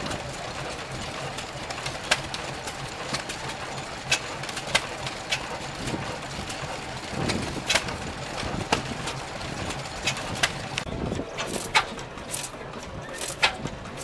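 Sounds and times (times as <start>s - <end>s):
low engine running sound: 0.0s - 14.0s
stationary engine beats: 0.0s - 14.0s.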